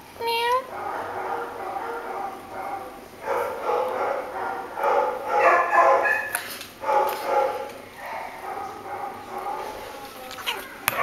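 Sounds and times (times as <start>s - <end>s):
dogs barking: 0.7s - 10.0s, 10.7s - 11.0s.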